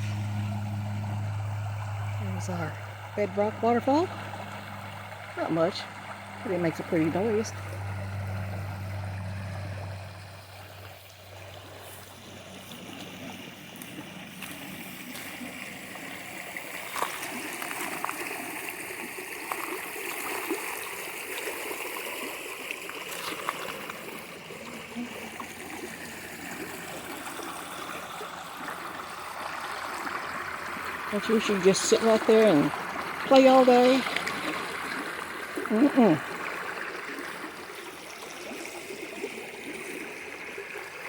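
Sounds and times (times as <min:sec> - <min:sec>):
water running over rock: 0:00.2 - 0:41.0.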